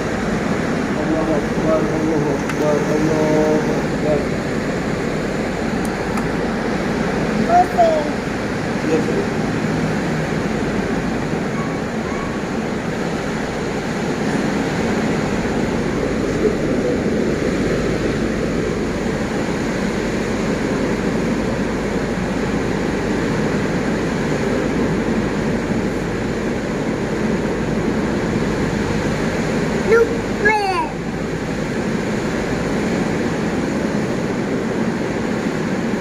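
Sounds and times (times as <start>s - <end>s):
strong wind rushing: 0.0s - 36.0s.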